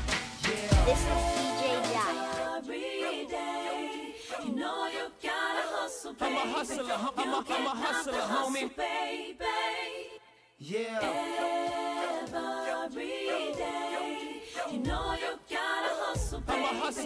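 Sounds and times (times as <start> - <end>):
unaccompanied vocal harmonies: 0.4 - 17.0.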